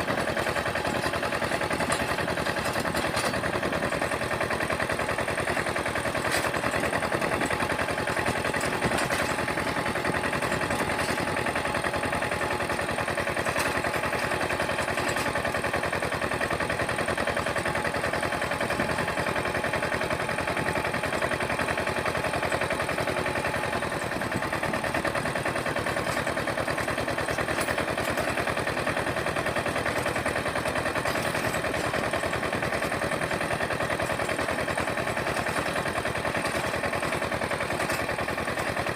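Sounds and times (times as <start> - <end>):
mini tractor engine running: 0.0 - 38.9.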